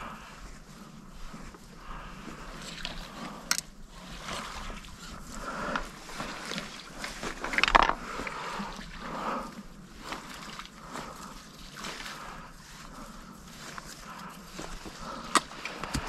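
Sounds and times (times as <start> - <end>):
rustling of gear and brush: 0.0 - 16.0
water sloshing and splashing: 0.0 - 16.0.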